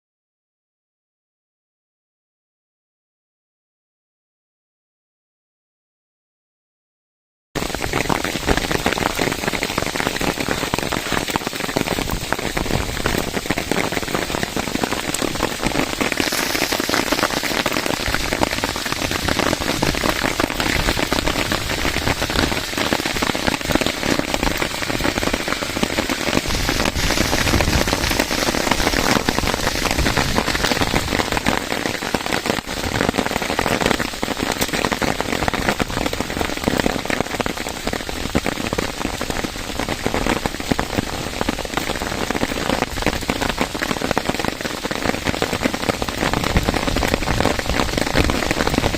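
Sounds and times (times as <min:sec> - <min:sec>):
heavy rain pattering: 0:07.6 - 0:48.9.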